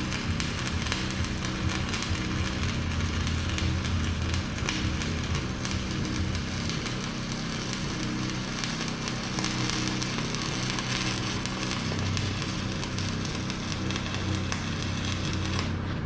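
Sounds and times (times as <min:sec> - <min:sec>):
low hum: 0:00.0 - 0:16.0
welding arc crackling: 0:00.0 - 0:16.0.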